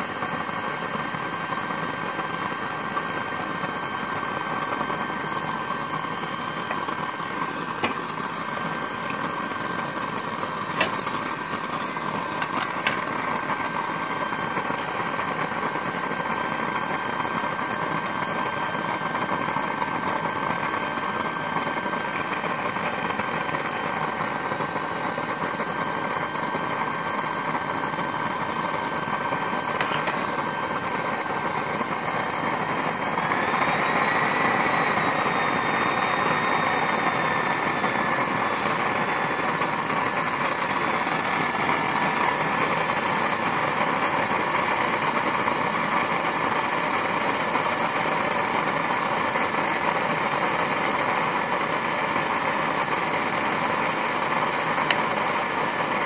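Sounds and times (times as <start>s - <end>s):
oil burner roaring: 0.0s - 56.0s.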